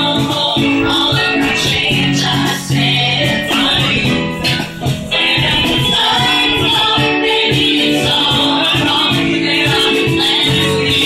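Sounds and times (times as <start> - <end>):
strummed acoustic guitars: 0.0 - 11.0
voices singing: 0.0 - 11.0.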